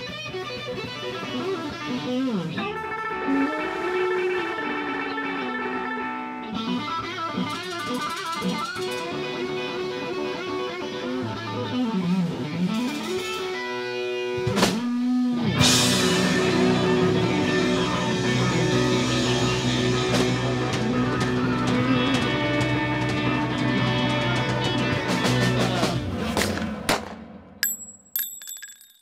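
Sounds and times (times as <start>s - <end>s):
electric guitar lead line: 0.0s - 26.8s.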